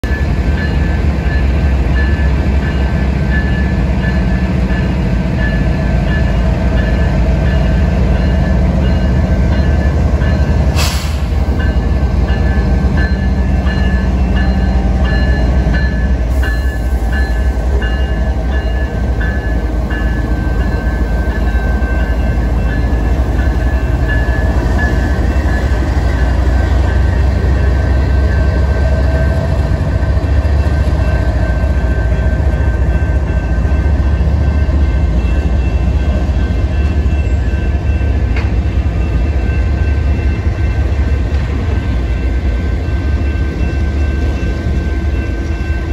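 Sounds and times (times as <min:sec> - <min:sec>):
crossing bell dinging: 0:00.0 - 0:45.9
diesel locomotive engine rumbling: 0:00.0 - 0:45.9.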